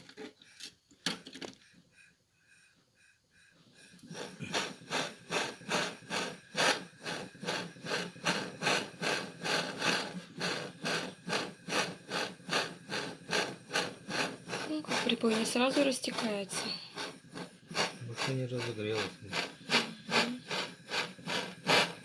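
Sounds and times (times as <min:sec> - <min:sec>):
scraping by hand: 0:03.8 - 0:22.0.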